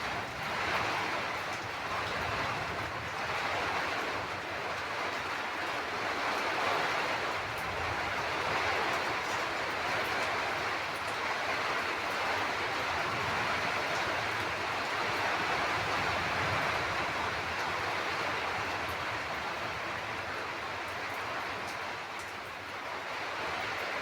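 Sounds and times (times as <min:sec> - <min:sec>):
steady rain falling: 0:00.0 - 0:24.0
ticks of raindrops: 0:00.0 - 0:24.0.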